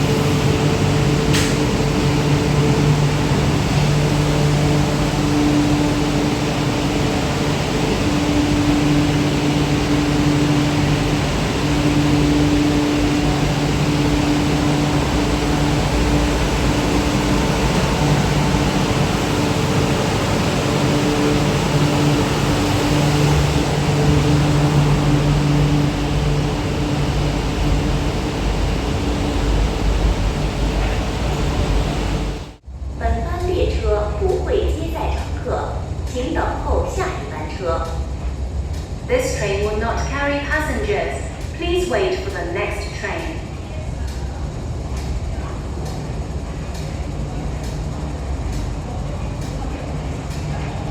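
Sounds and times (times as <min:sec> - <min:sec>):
low hum: 0:00.0 - 0:43.5
electric metro train running: 0:00.0 - 0:50.9.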